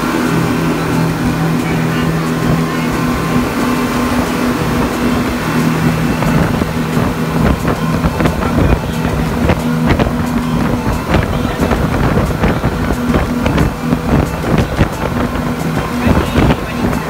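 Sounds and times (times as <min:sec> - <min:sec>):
outboard motors running: 0:00.0 - 0:17.0
rushing wind and water: 0:00.0 - 0:17.0.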